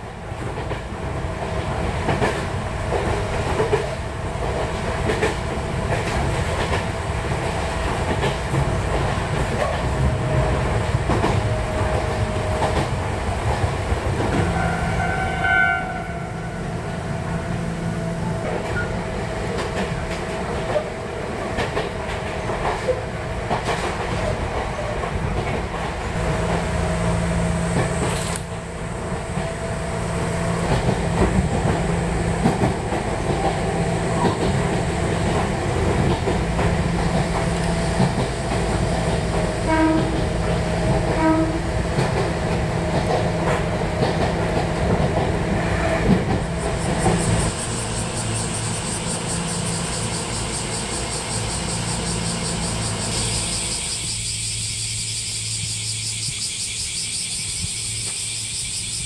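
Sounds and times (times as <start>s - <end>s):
rail clicks: 0.0s - 54.6s, 55.3s - 59.0s
train rumbling on rails: 0.0s - 59.0s.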